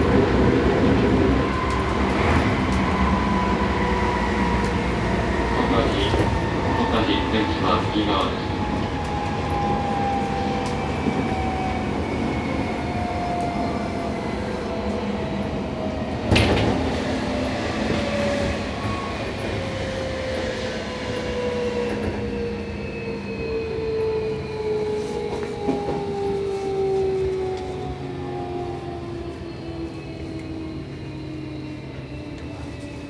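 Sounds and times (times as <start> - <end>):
train traction motor whine: 0.0 - 33.0.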